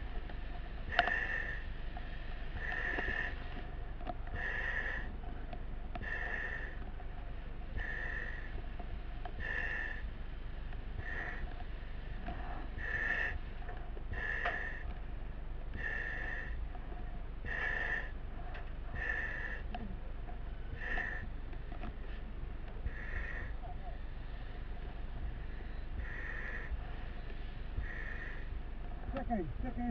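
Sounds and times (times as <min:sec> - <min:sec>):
breathing through mask valve hiss: 0:00.0 - 0:05.3, 0:06.0 - 0:07.0, 0:07.7 - 0:08.6, 0:09.4 - 0:15.0, 0:15.7 - 0:16.7, 0:17.4 - 0:19.8, 0:20.6 - 0:28.8
steady low hum: 0:00.0 - 0:29.9.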